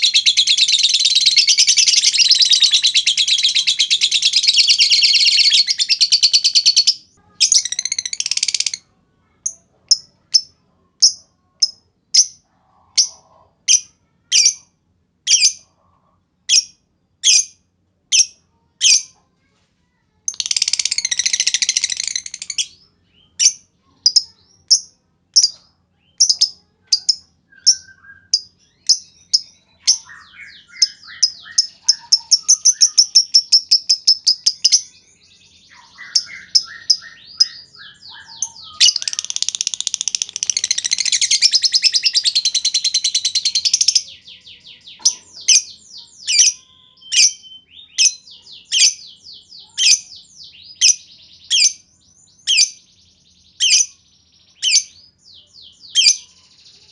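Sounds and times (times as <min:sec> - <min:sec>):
lovebird chirps and trill: 0:00.0 - 0:19.2, 0:20.2 - 0:56.9.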